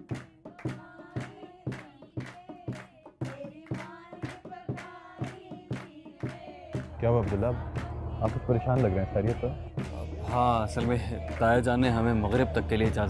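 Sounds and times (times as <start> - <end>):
people singing festive song: 0.0 - 13.0
rhythmic hand clapping: 0.0 - 13.0.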